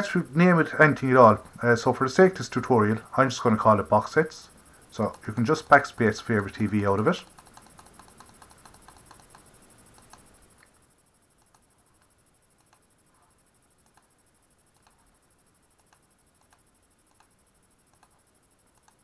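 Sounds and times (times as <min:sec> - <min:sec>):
low room tone hiss: 0:00.0 - 0:19.0.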